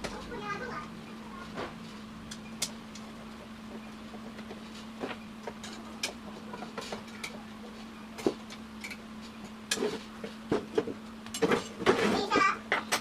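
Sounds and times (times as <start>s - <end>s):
coffee roaster humming: 0.0s - 13.0s.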